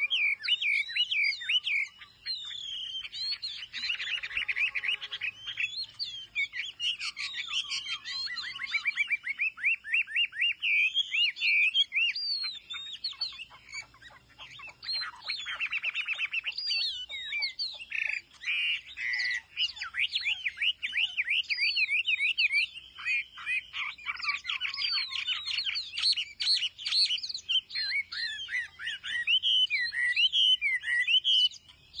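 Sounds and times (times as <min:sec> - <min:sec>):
bird singing trills and whistles: 0:00.0 - 0:32.0.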